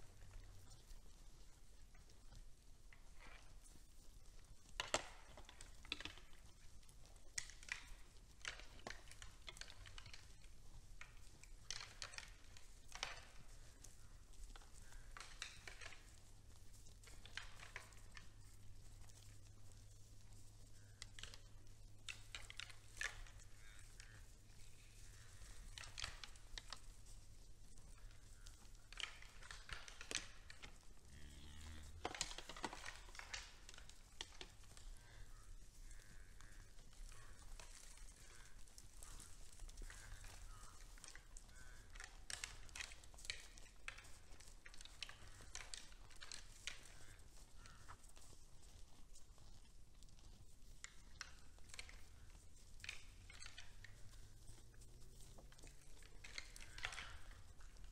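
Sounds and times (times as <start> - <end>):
deer feeding at hay: 0.0 - 57.9
hooves crunching in snow: 0.0 - 57.9.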